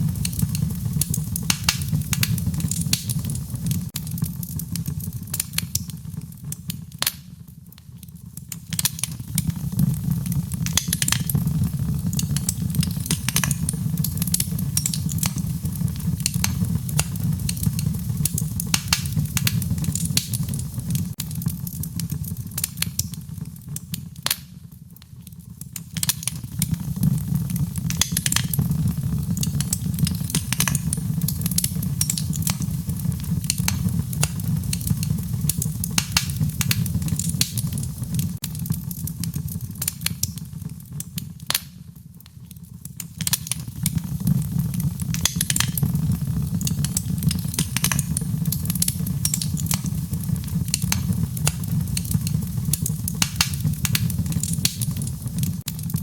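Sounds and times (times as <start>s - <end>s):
low rumble of burning: 0.0s - 56.0s
sharp pops and snaps: 0.0s - 56.0s
wood fire crackling: 0.0s - 56.0s.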